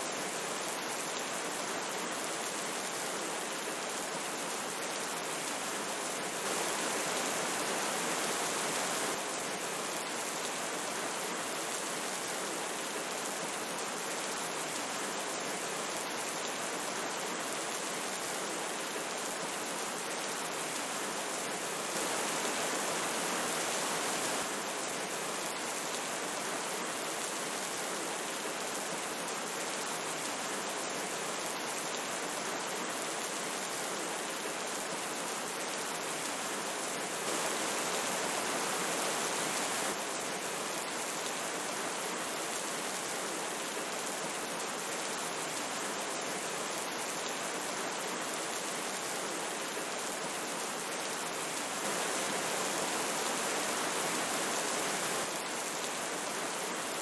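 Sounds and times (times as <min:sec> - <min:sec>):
rain falling: 0:00.0 - 0:57.0
river flowing: 0:01.6 - 0:12.2, 0:12.8 - 0:30.7, 0:34.0 - 0:57.0.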